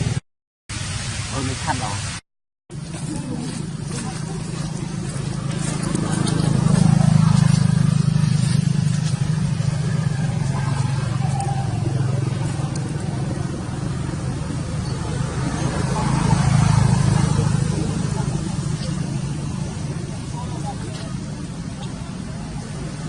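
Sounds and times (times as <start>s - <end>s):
low vehicle engine hum: 2.7s - 23.0s.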